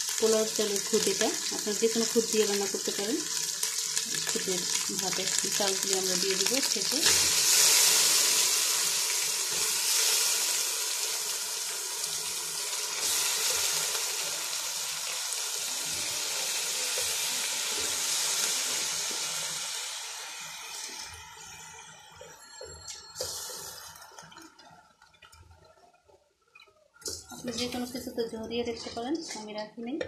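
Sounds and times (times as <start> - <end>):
rice sizzling in a pot: 0.0 - 25.7.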